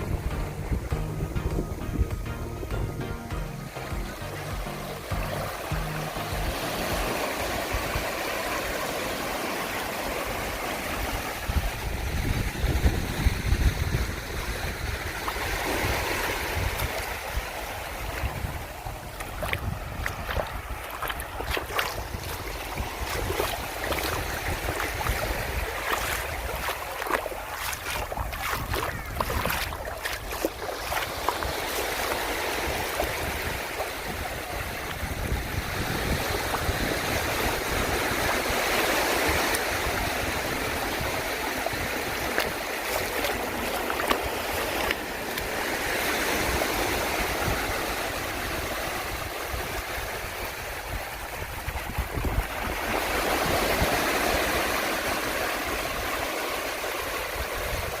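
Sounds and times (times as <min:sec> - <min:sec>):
wind rumble on microphone: 0:00.0 - 0:03.0, 0:10.3 - 0:58.0
waves breaking on a beach: 0:03.7 - 0:58.0.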